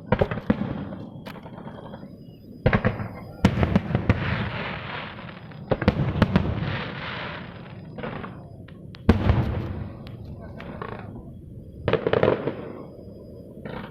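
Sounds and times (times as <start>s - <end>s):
fireworks bangs: 0.0s - 13.9s
fireworks crackling hiss: 0.0s - 13.9s.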